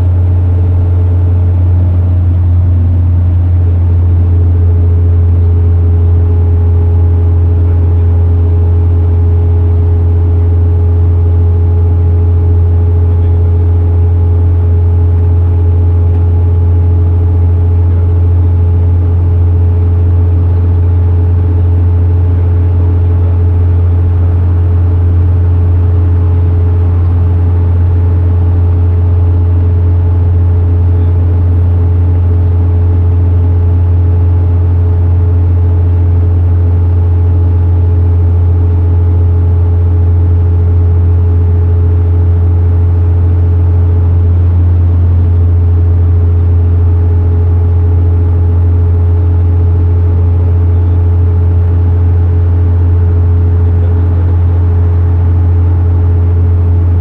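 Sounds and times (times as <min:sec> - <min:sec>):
faint steady whine: 0:00.0 - 0:57.0
vehicle engine and road noise hum: 0:00.0 - 0:57.0.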